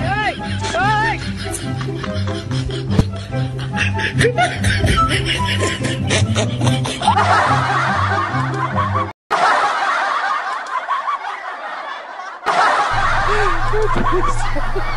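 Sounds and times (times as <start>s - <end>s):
snickering laughter: 0.1s - 14.9s.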